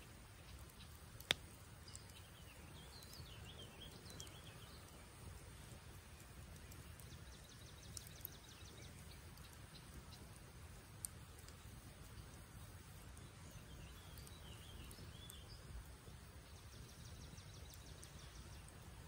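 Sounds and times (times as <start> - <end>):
campfire crackling: 0.0 - 19.0
low steady hiss: 0.0 - 19.0
small bird chirping: 0.4 - 10.4, 11.4 - 19.0.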